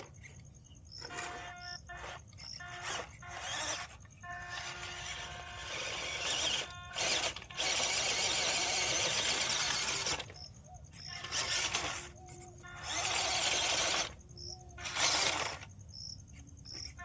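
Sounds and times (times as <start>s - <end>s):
radio-controlled car motor: 0.0s - 17.0s.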